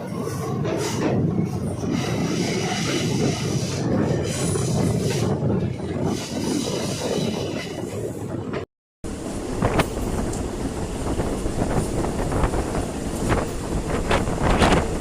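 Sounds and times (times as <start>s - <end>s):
train wheels rumbling on rails: 0.0s - 15.0s
wind buffeting microphone: 0.0s - 15.0s.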